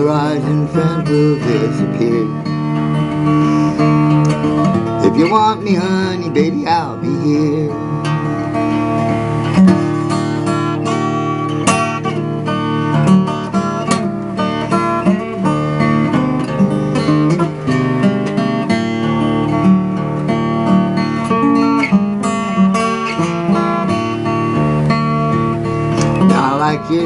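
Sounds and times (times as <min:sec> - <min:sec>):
acoustic guitar picking: 0:00.0 - 0:27.0.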